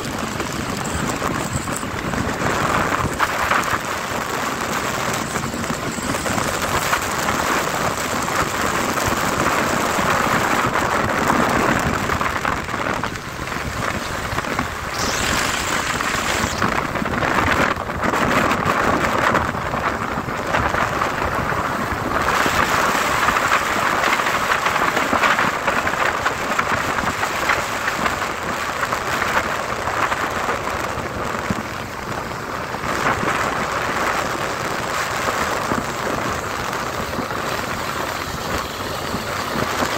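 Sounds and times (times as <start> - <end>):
motorbike riding at speed: 0.0 - 39.9
rain and wind on microphone: 0.0 - 39.9
tyres on wet road: 0.0 - 39.9.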